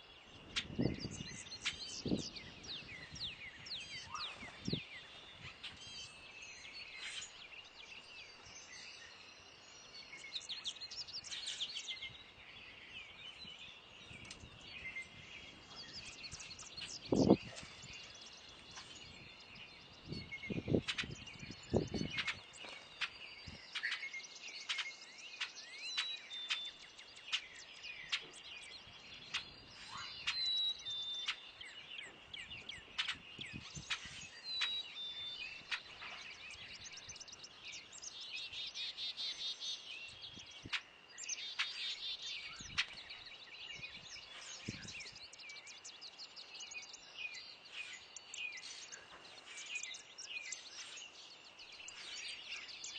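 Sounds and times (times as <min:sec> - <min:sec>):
bird trills: 0:00.0 - 0:07.4, 0:13.4 - 0:52.9
songbirds chirping: 0:00.0 - 0:52.9.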